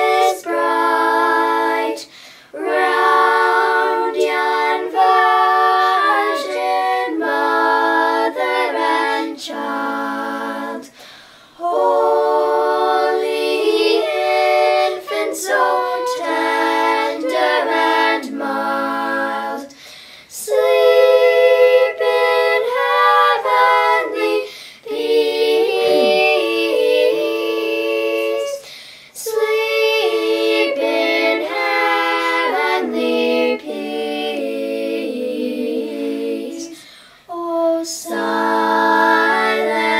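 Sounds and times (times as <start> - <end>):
voices singing a cappella in harmony: 0.0 - 39.9.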